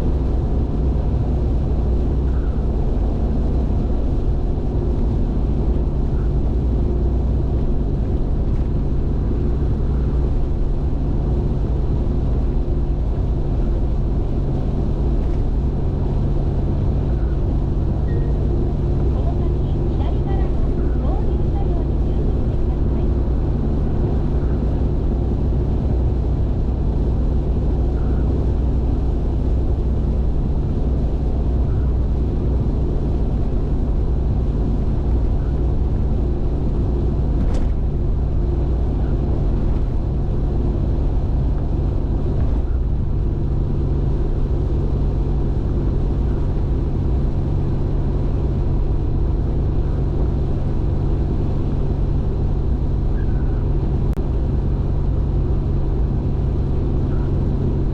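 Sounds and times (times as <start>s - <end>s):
car engine hum: 0.0s - 57.9s.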